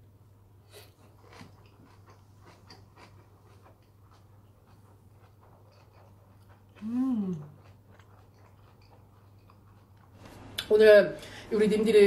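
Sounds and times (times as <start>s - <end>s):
steady low hum: 0.0s - 12.0s
mouth chewing with crunches: 0.6s - 10.7s.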